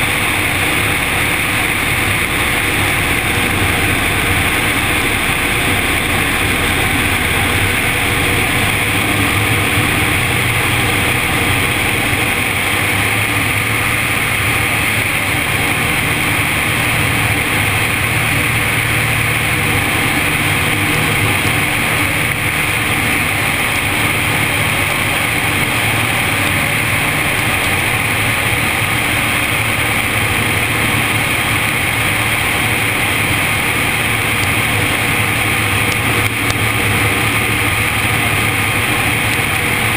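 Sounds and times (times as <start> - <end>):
aircraft engine and propeller: 0.0 - 39.9
airflow rushing: 0.0 - 39.9.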